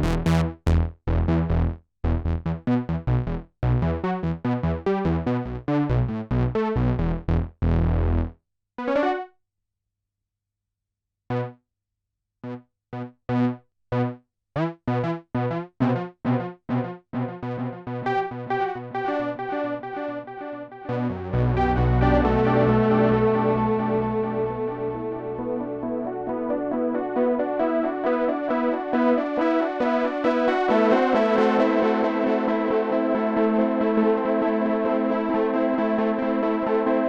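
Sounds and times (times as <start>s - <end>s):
synthesizer chords and notes: 0.0s - 9.3s, 12.5s - 37.0s.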